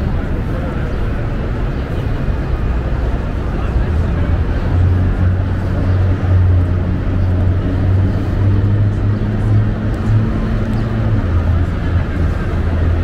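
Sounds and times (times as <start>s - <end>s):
low engine hum: 0.0s - 13.0s
road noise: 0.0s - 13.0s.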